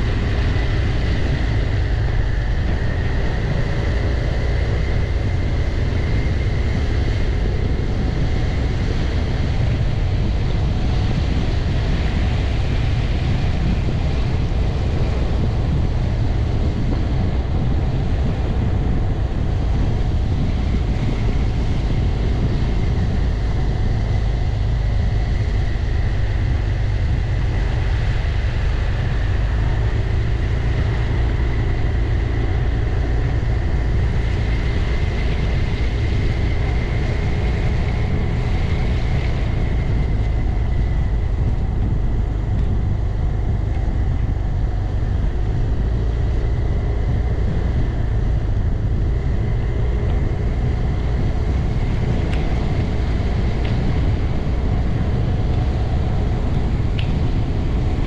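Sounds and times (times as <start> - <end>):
wind rumble on camera: 0.0 - 58.0.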